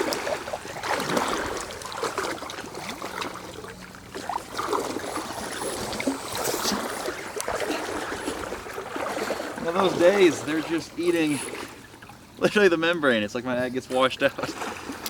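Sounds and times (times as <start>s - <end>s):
river water splashing: 0.0s - 15.0s.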